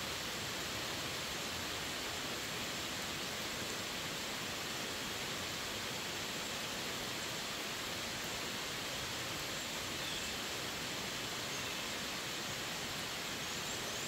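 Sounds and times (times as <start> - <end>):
heavy rain on trees and road: 0.0 - 14.0.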